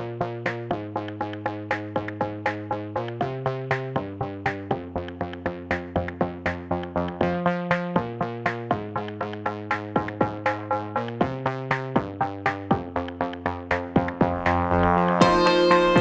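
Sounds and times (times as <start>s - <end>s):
electronic music beat: 0.0s - 16.0s
synthesizer chords: 0.0s - 16.0s.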